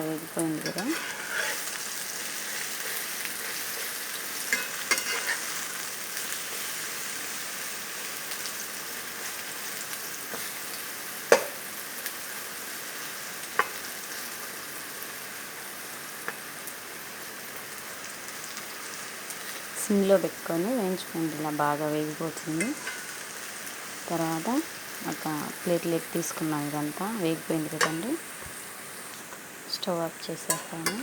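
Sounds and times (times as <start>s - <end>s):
leaves sizzling in oil: 0.0s - 31.0s.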